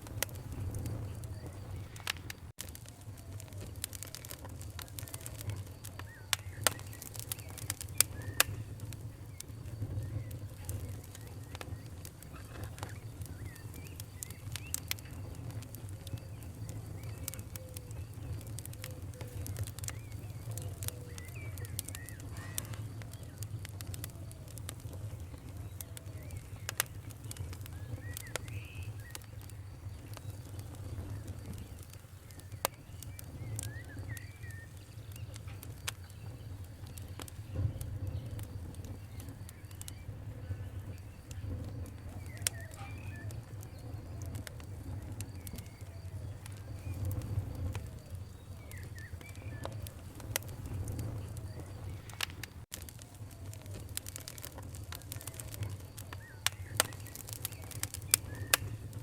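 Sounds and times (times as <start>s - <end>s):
campfire crackling and popping: 0.0s - 59.0s
faint bird chirps: 0.2s - 2.2s, 3.0s - 52.6s, 53.2s - 59.0s.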